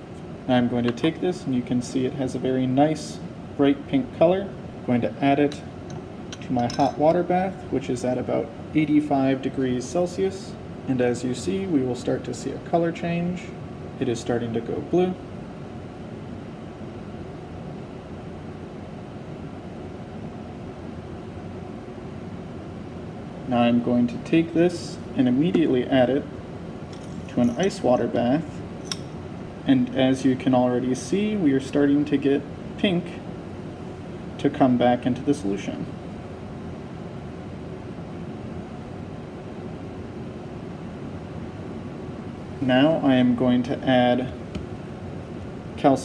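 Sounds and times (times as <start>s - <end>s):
air handling hum: 0.0s - 46.0s.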